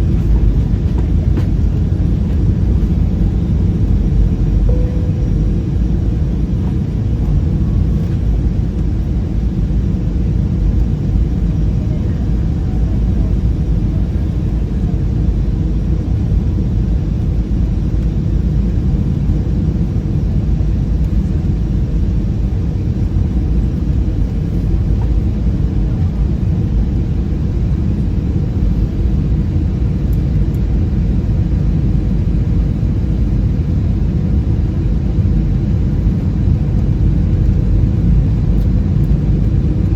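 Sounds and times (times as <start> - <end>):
jet engines and airflow in cabin: 0.0 - 39.9.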